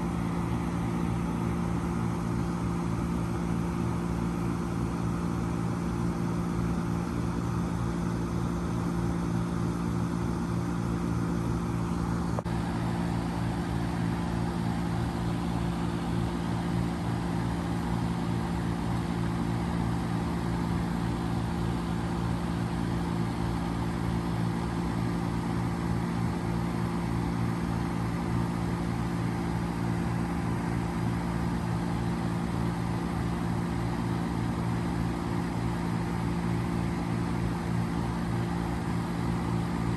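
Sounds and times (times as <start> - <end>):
compressor low hum: 0.0 - 39.9
fan airflow rushing: 0.0 - 39.9.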